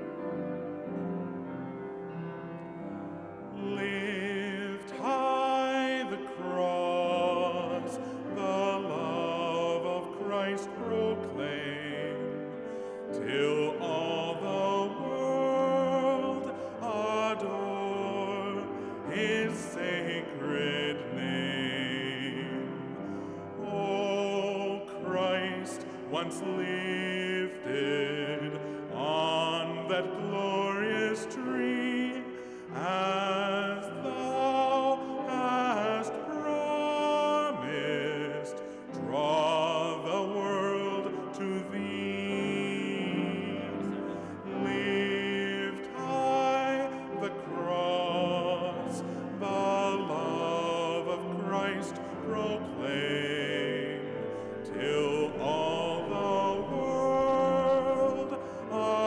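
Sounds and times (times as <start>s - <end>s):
church organ music: 0.0s - 59.0s.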